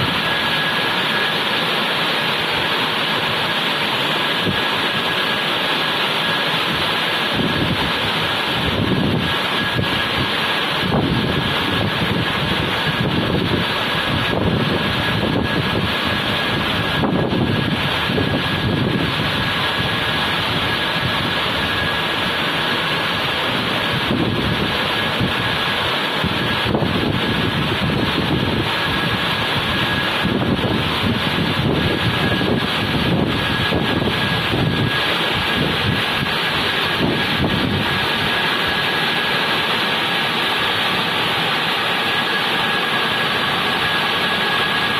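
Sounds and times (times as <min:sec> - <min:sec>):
car wash machine running: 0:00.0 - 0:44.9
high whine: 0:00.0 - 0:44.9.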